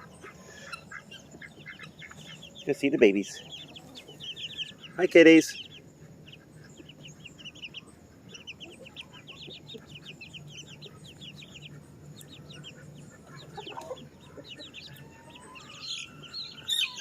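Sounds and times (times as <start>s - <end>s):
chicks peeping: 0.0s - 17.0s
low steady hum: 0.0s - 17.0s.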